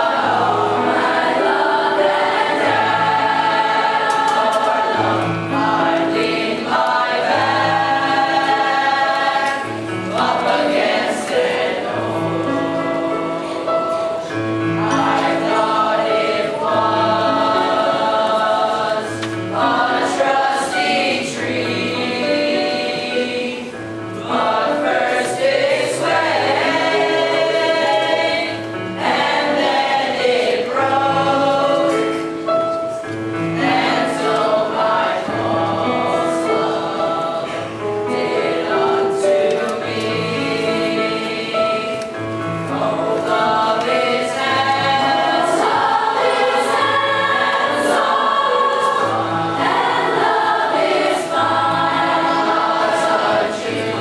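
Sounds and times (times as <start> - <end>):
chorus singing in parts: 0.0 - 54.0.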